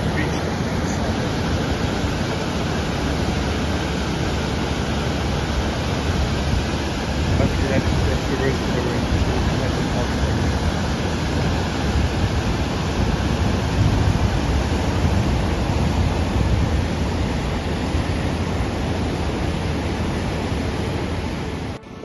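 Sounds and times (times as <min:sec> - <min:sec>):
wind buffeting microphone: 0:00.0 - 0:21.8
floodwater rushing: 0:00.0 - 0:22.0.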